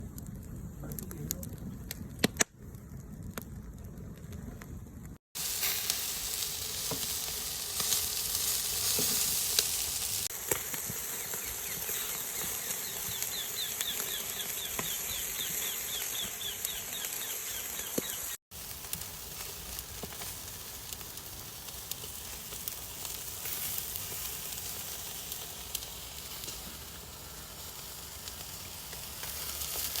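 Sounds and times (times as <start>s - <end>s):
food sizzling on a grill: 5.4s - 30.0s.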